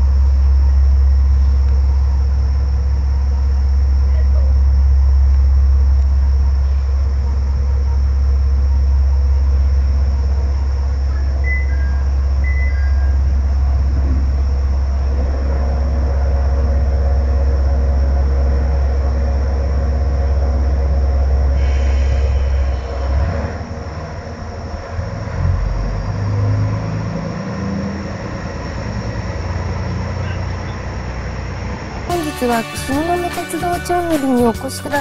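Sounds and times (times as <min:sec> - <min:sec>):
diesel railcar engine idling: 0:00.0 - 0:35.0.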